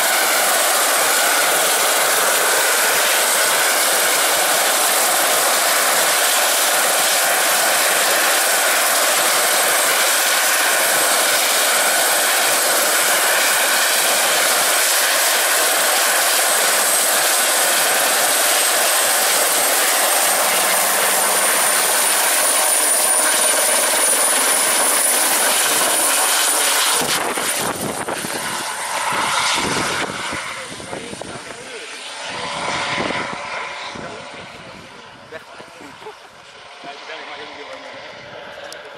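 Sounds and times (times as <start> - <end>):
helicopter rotor beating: 0.0 - 38.9
helicopter turbine whine: 0.0 - 38.9.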